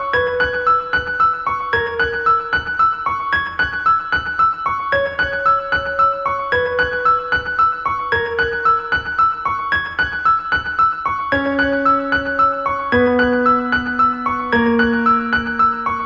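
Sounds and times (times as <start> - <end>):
gentle electric piano tune: 0.0 - 16.0.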